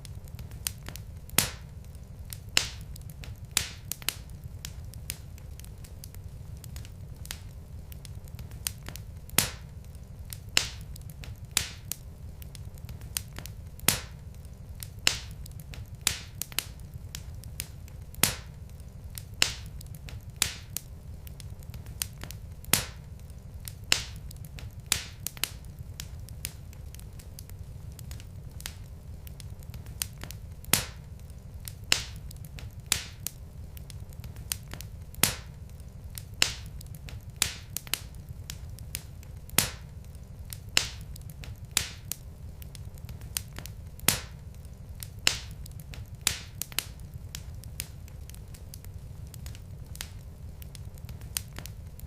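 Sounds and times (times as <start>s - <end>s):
logs crackling and popping: 0.0s - 52.0s
low rumble of flames: 0.0s - 52.0s.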